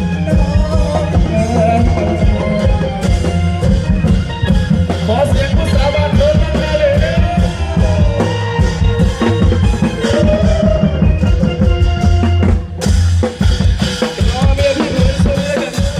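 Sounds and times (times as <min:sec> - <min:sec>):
gliding melody line: 0:00.0 - 0:12.8
driving drum beat: 0:00.0 - 0:15.9
drum troupe music: 0:00.0 - 0:15.9.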